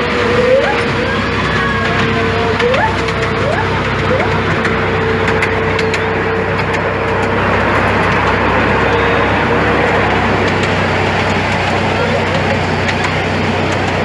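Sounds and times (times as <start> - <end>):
clicks of wheels: 0.0 - 14.0
steady whine: 0.0 - 14.0
train wheels rumbling on rails: 0.0 - 14.0.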